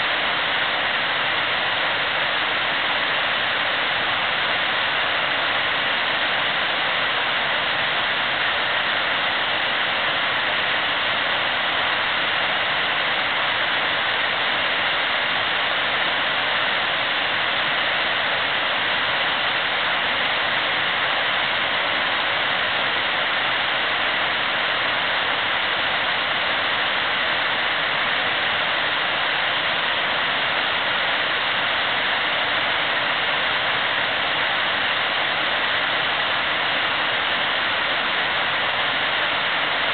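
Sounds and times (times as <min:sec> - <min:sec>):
river water over rapids: 0:00.0 - 0:39.9.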